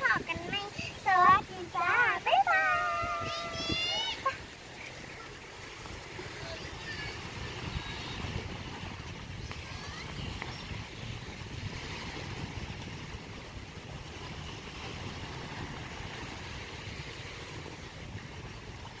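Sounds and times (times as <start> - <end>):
small waves washing on sand: 0.0 - 19.0
wind buffeting microphone: 0.0 - 19.0.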